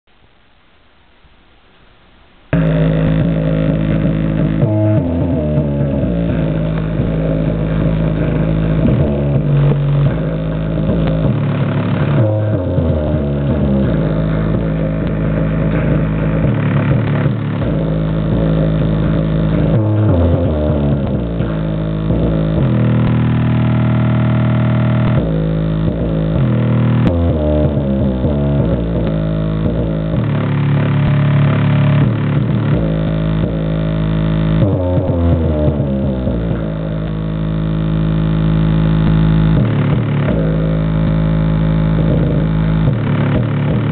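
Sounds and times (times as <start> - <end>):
bass-heavy music through subwoofer: 2.3 - 43.9.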